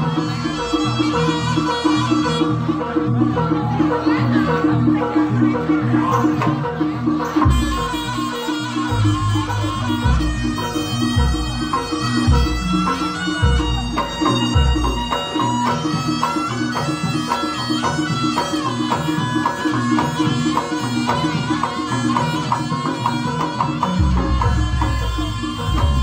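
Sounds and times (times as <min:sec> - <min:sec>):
drums and gamelan percussion: 0:00.0 - 0:26.0
shawm melody: 0:00.0 - 0:26.0.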